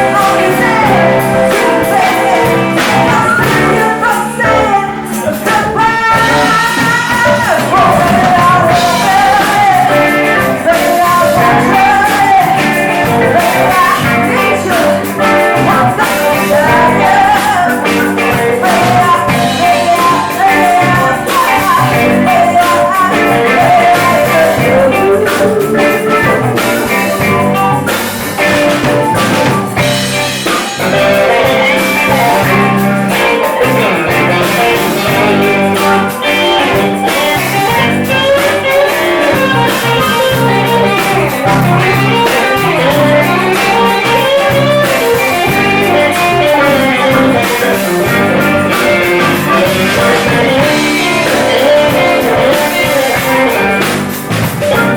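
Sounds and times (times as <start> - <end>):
drum kit: 0.0 - 54.9
guitar: 0.0 - 54.9
live band playing soul-blues: 0.0 - 54.9.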